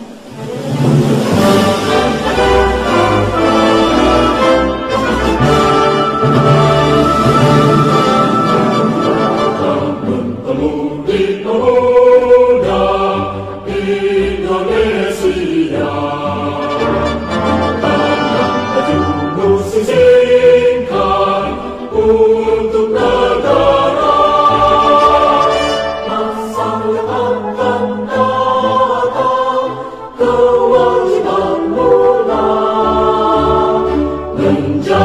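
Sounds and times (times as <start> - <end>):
choir singing held notes: 0.0 - 35.0.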